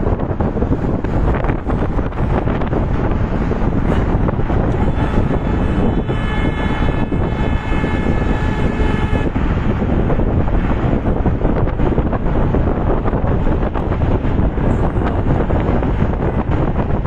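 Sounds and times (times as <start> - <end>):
road and engine noise: 0.0 - 17.0
wind buffeting microphone: 0.0 - 17.0.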